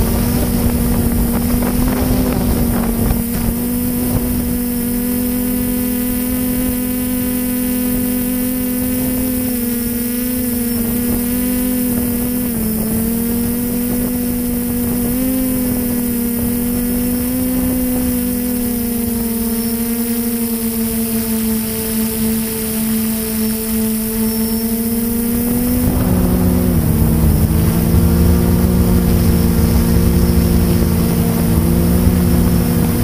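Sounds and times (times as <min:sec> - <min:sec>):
model plane motor droning: 0:00.0 - 0:33.0
wind hiss: 0:00.0 - 0:33.0.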